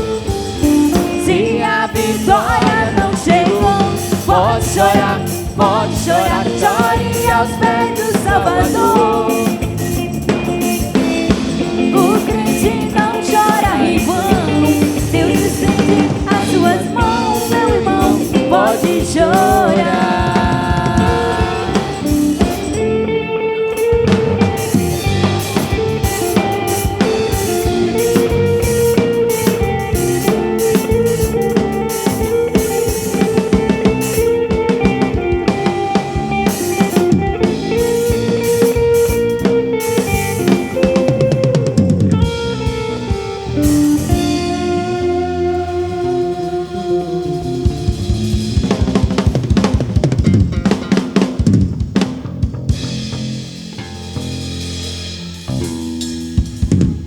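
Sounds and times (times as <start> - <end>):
lead melody with vibrato: 0.0 - 49.0
drum kit beat: 0.0 - 57.0
gospel band playing: 0.0 - 57.0.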